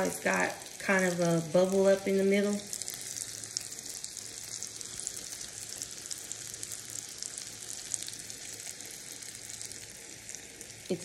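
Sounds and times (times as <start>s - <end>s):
grease sizzling on a griddle: 0.0s - 11.0s.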